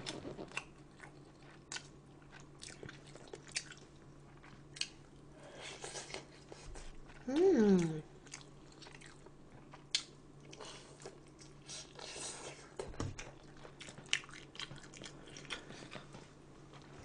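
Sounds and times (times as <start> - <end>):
person chewing food: 0.0 - 16.2.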